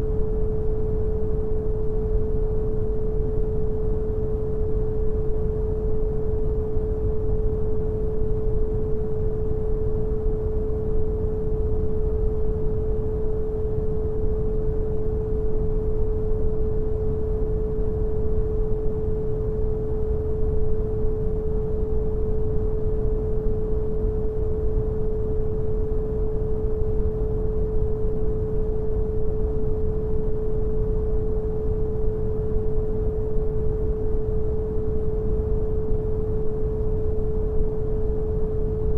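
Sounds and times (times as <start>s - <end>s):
pure sine tone: 0.0s - 38.9s.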